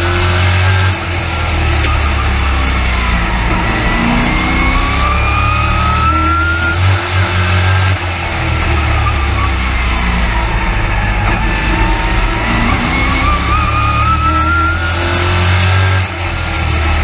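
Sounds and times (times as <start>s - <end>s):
engine whine rising in pitch: 0.0s - 17.0s
truck engine under load: 0.0s - 17.0s.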